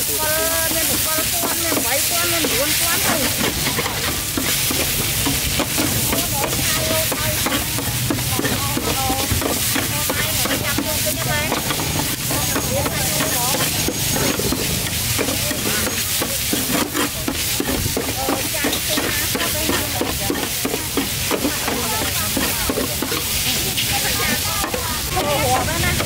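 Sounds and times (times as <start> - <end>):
metal spatula scraping griddle: 0.0 - 26.0
noodles sizzling: 0.0 - 26.0.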